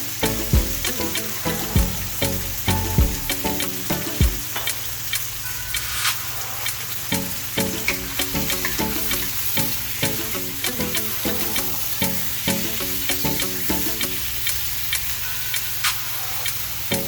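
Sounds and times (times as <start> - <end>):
chicken sizzling in a frying pan: 0.0 - 17.0.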